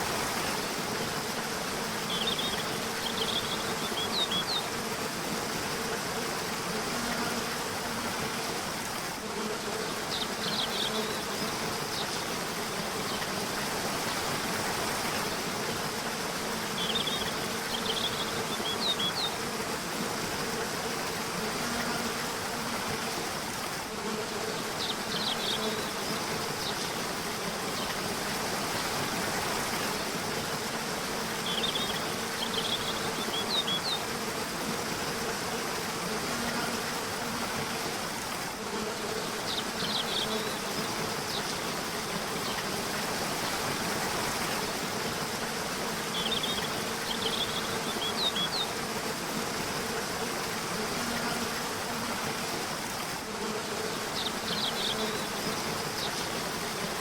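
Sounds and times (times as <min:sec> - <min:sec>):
river flowing: 0:11.1 - 0:57.0.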